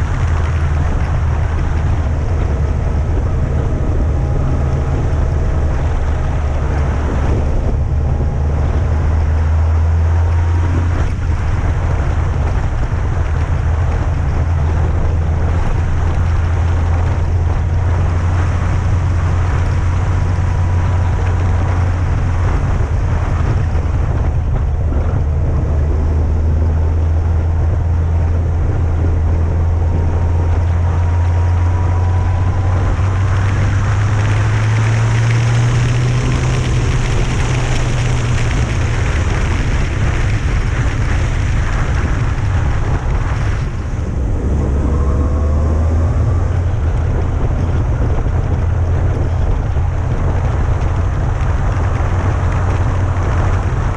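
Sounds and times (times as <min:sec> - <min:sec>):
motorcycle engine running: 0:00.0 - 0:53.9
wind rushing over microphone: 0:00.0 - 0:53.9.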